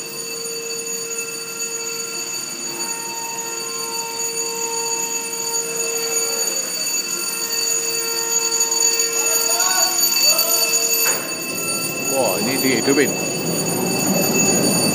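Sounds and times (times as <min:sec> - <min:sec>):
locomotive engine whine: 0:00.0 - 0:14.9.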